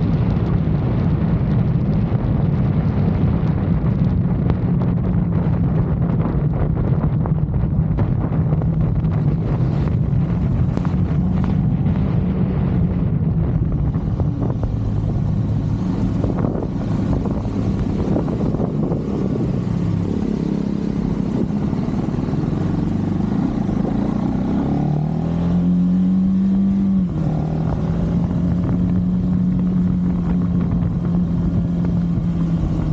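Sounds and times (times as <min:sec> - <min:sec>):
motorcycle engine running: 0:00.0 - 0:32.9
wind rushing past: 0:04.9 - 0:32.9.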